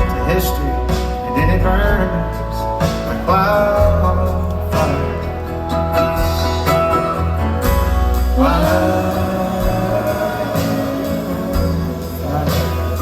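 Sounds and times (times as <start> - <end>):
acoustic folk band playing: 0.0 - 13.0.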